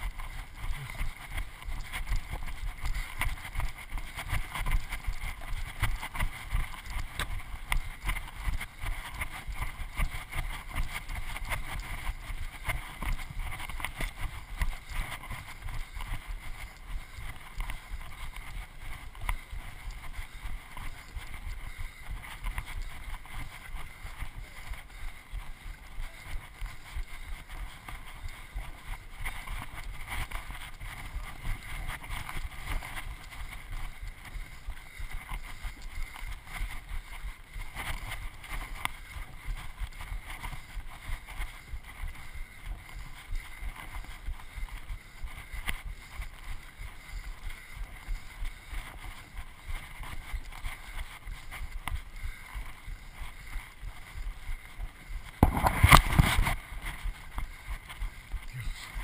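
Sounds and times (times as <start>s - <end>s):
brushing against dry grass: 0.0s - 59.0s
footfalls on dirt trail: 0.1s - 59.0s.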